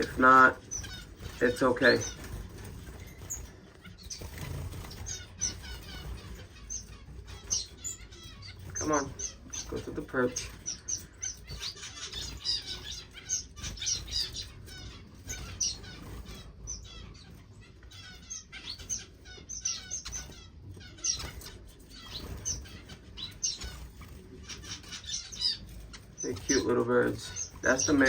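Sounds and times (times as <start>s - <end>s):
finches chirping and trilling: 0.0s - 28.0s
wings fluttering: 0.0s - 28.0s.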